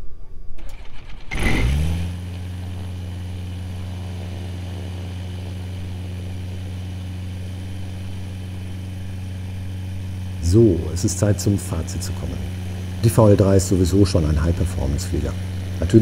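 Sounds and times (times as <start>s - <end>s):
aircraft engine idling: 0.6s - 16.0s.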